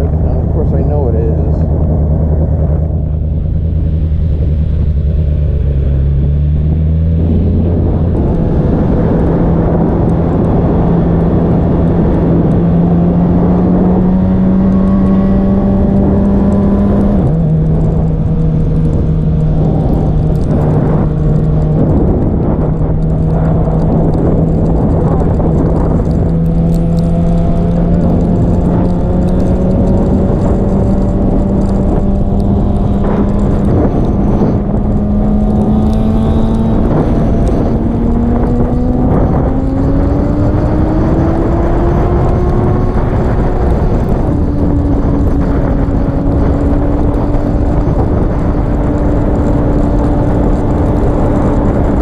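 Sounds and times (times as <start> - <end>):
motorcycle engine accelerating: 0.0 - 52.0
wind rush over microphone: 0.0 - 52.0.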